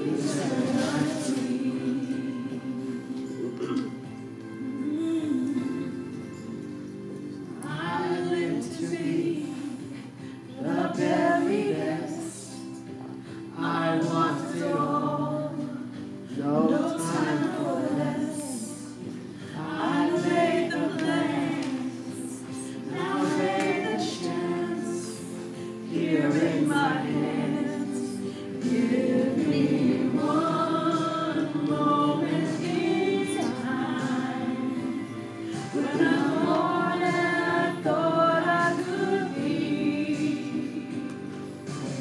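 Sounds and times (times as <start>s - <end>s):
several voices singing a song: 0.0s - 42.0s.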